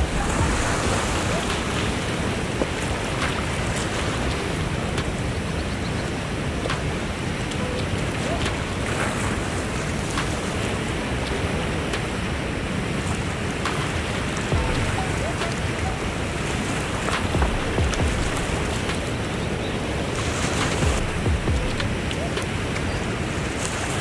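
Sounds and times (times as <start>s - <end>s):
lake waves washing: 0.0s - 24.0s
wind buffeting microphone: 0.0s - 24.0s.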